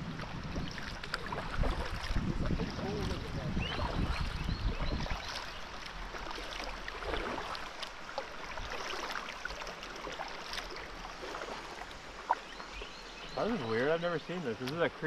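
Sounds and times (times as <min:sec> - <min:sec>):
river water rushing: 0:00.0 - 0:15.0
water splashing: 0:00.0 - 0:15.0.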